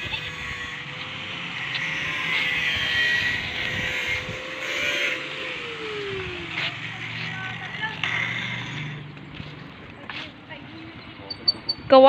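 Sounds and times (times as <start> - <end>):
motor running: 0.0 - 10.2.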